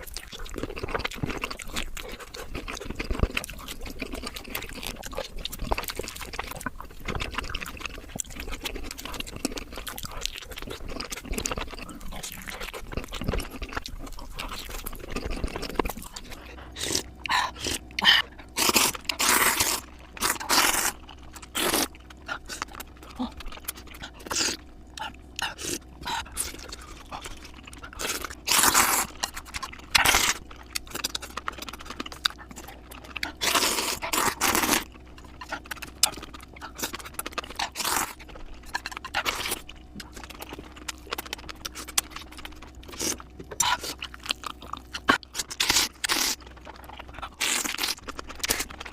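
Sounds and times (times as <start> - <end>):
chewing: 0.0 - 48.9
crunchy bites: 0.0 - 48.9.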